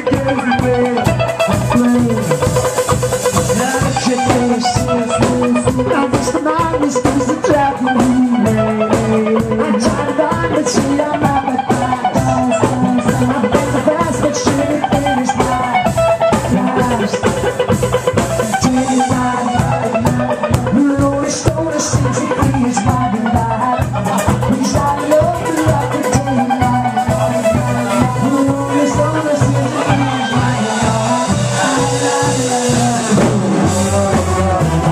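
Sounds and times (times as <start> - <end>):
ornamented folk melody: 0.0 - 34.9
steady drum beat: 0.0 - 34.9.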